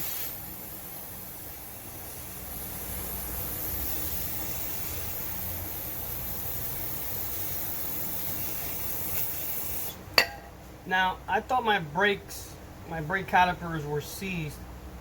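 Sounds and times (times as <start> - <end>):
steady noisy hiss: 0.0 - 15.0.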